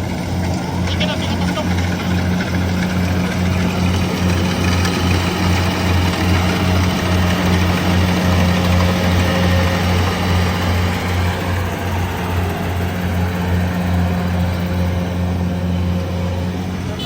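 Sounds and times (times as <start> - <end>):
harvester engine running: 0.0 - 17.0
machinery noise: 0.0 - 17.0.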